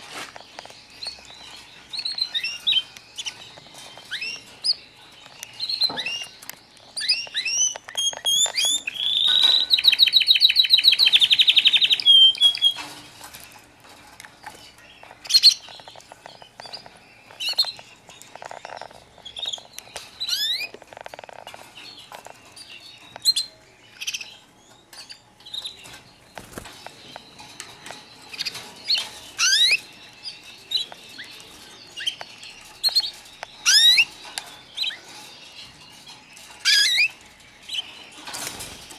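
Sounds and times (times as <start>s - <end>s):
canaries chirping and trilling: 0.0s - 38.9s.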